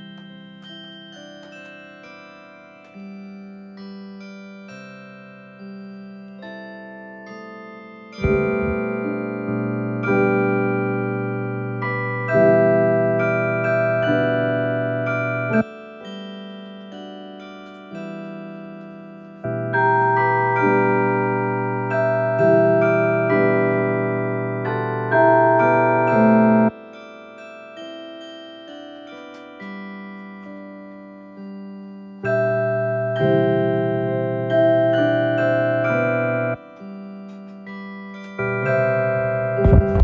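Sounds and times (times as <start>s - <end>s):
electronic carillon melody: 0.0s - 40.0s.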